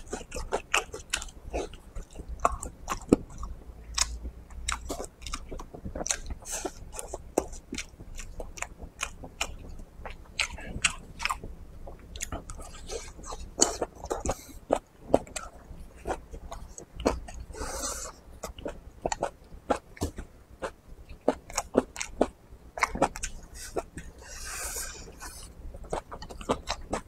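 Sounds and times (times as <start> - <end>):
man chewing soft food: 0.0 - 27.0.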